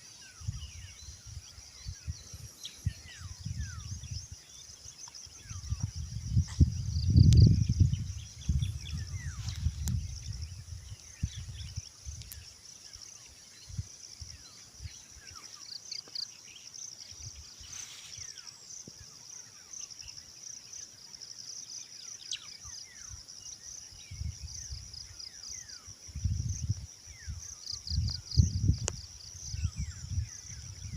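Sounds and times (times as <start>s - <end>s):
faint bird chirps: 0.0s - 30.9s
insects trilling: 0.0s - 30.9s.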